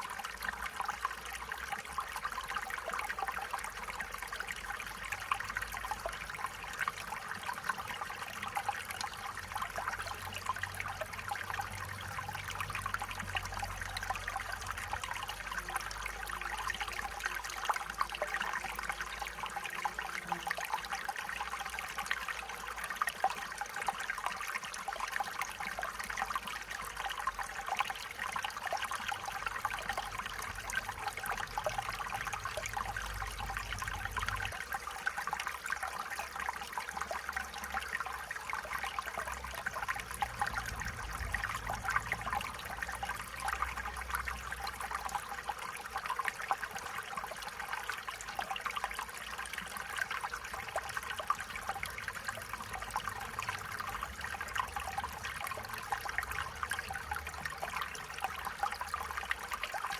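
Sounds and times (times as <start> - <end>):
stream water babbling over stones: 0.0 - 59.9.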